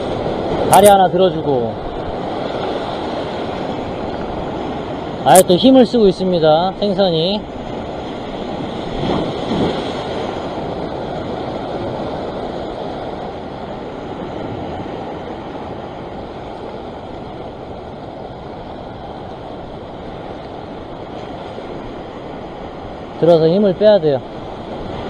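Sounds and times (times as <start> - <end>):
surf breaking over rocks: 0.0 - 25.0.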